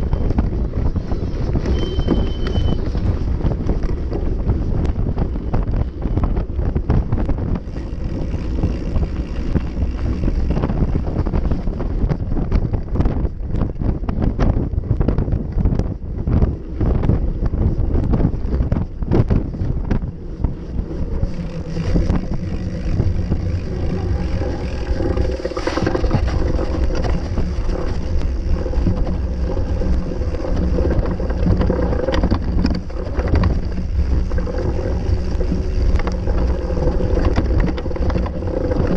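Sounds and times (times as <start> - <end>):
mountain bike rattling on dirt: 0.0 - 38.9
wind rumbling on microphone: 0.0 - 38.9.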